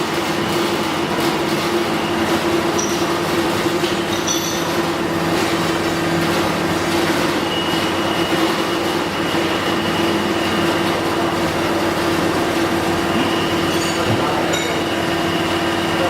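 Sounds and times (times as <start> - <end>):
spindle motor hum: 0.0 - 16.0.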